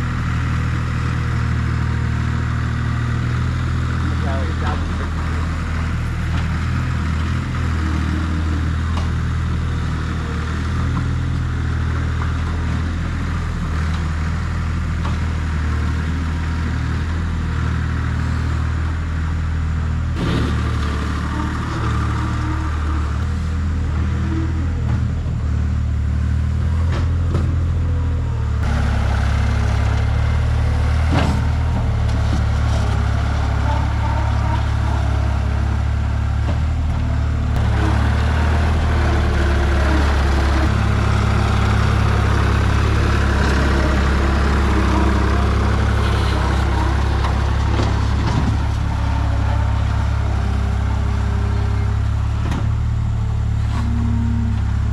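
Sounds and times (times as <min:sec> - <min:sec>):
skid steer engine running: 0:00.0 - 0:54.9.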